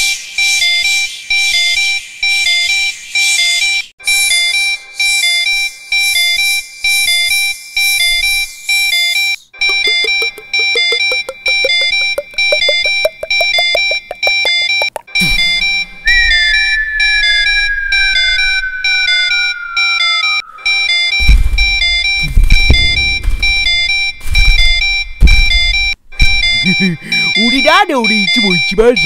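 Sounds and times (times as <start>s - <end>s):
electronic alarm beeping: 4.3s - 29.0s.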